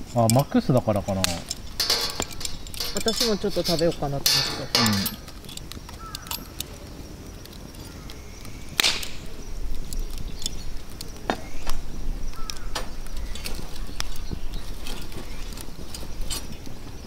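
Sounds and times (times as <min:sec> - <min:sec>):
sharp pops of burning wood: 0:00.0 - 0:17.0
wood fire crackling: 0:00.0 - 0:17.0.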